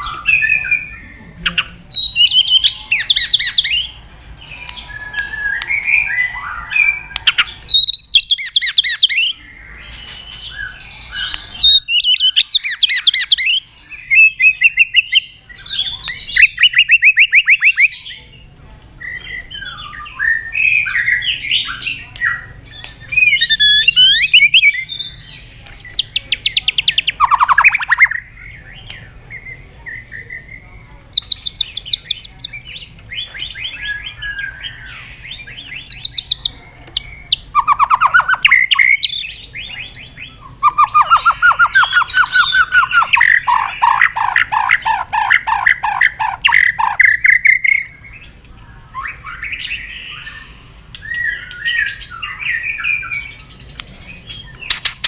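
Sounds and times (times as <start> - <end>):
bird singing varied phrases: 0.0 - 55.0.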